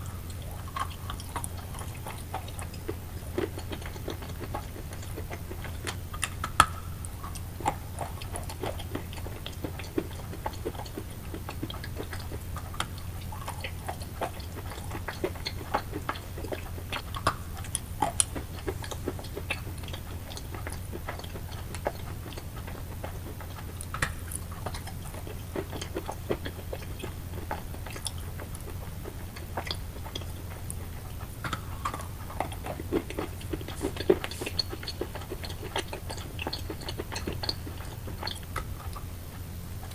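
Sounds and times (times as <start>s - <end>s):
chalk being chewed: 0.0s - 39.9s.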